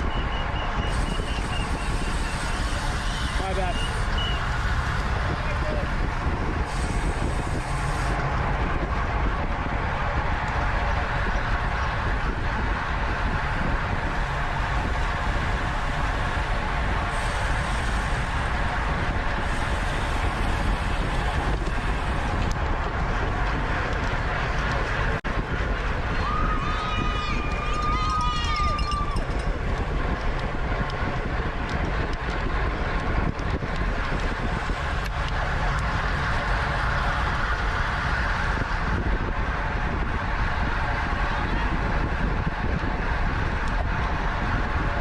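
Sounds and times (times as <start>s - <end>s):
bicycle tyres rumbling on road: 0.0s - 45.0s
wind buffeting microphone: 0.0s - 45.0s.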